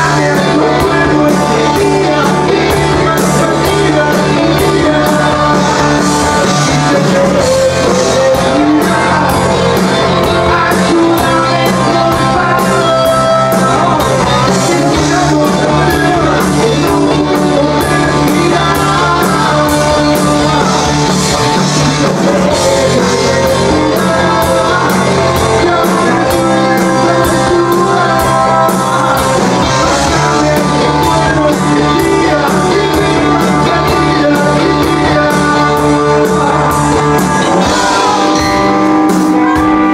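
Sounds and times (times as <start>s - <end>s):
drum kit with cymbal beat: 0.0s - 39.9s
electric guitars: 0.0s - 39.9s
man singing into microphone: 0.0s - 39.9s.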